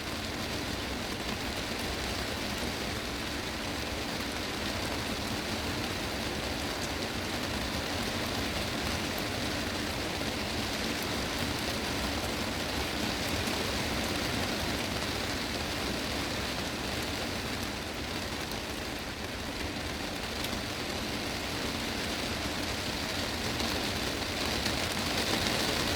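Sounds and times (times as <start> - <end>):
heavy rain on glass roof: 0.0 - 25.9.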